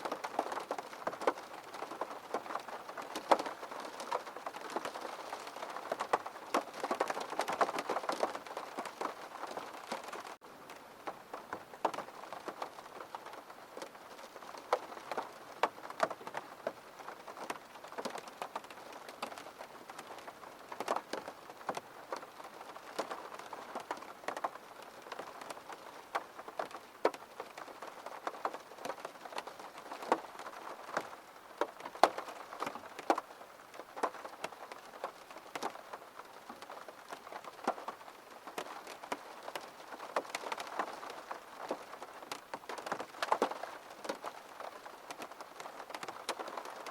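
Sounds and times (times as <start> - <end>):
rain drops hitting window: 0.0 - 46.9.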